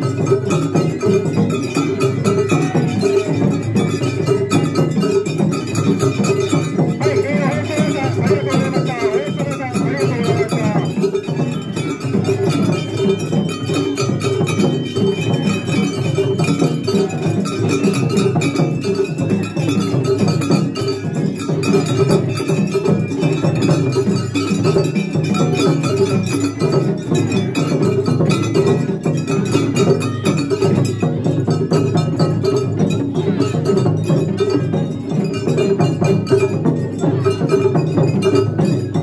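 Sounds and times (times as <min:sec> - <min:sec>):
taiko drumming: 0:00.0 - 0:39.0.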